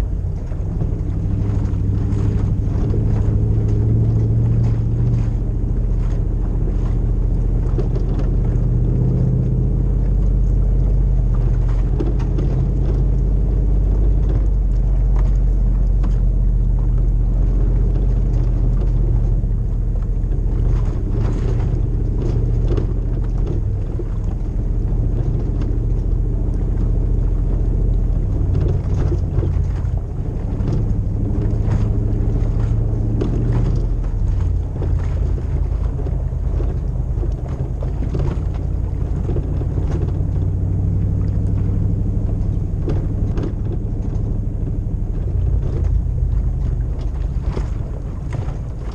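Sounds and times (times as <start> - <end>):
car engine rumbling: 0.0 - 48.9.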